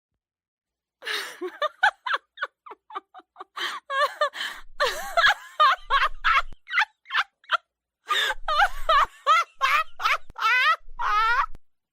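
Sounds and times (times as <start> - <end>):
girl laughing: 1.0 - 11.6.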